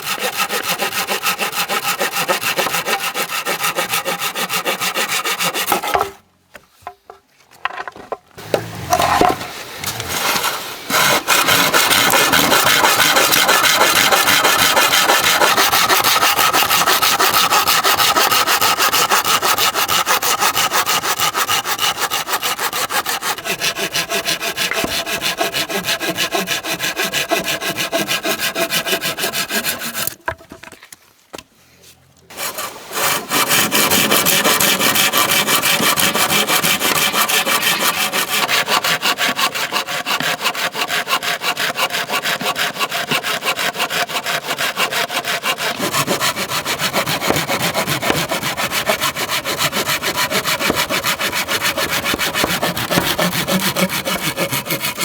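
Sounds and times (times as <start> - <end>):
hand saw cutting bamboo: 0.0 - 6.2, 8.4 - 30.4, 32.3 - 55.0.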